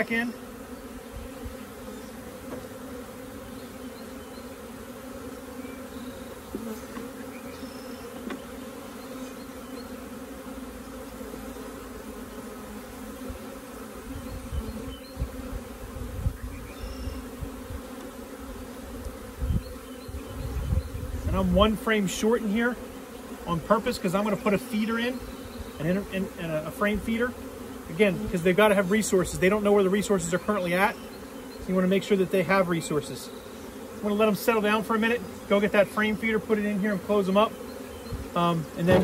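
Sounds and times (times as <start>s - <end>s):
bee swarm buzzing: 0.0s - 39.0s.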